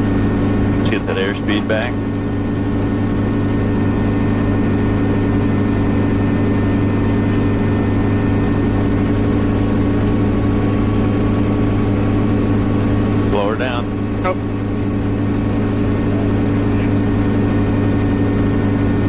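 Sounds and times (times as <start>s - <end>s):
helicopter engine and rotors drone: 0.0s - 19.0s.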